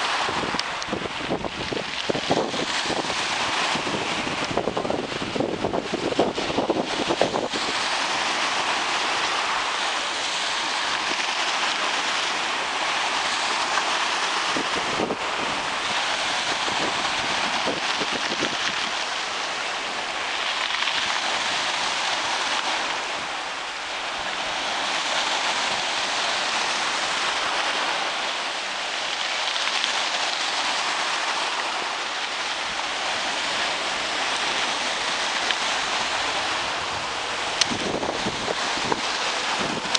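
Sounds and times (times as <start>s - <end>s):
sea surf washing onto shore: 0.0s - 39.9s.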